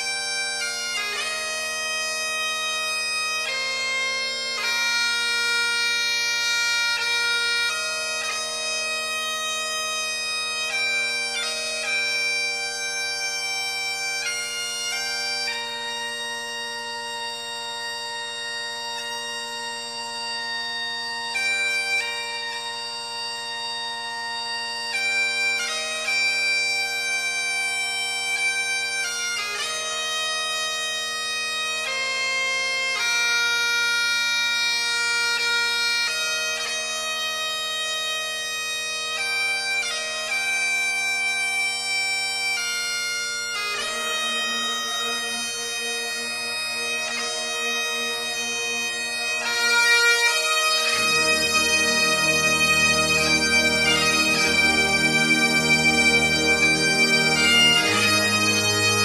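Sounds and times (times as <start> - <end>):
bagpipe music with drones: 0.0 - 59.0.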